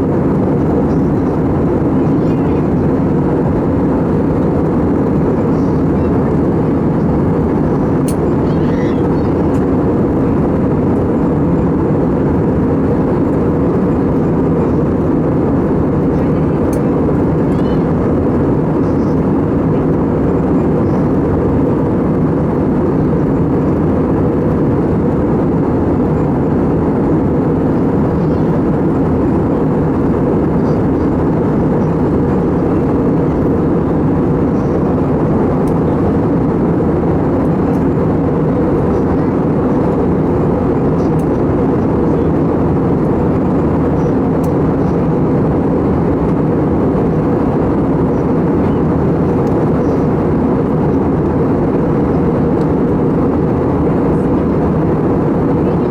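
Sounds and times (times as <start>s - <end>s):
jet engine roar in cabin: 0.0s - 55.9s.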